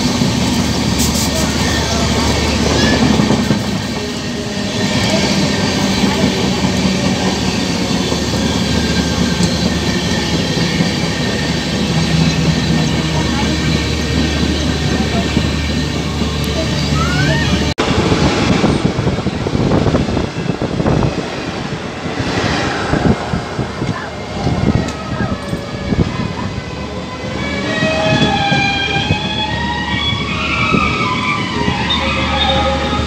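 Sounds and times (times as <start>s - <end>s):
train rumble inside coach: 0.0s - 33.0s.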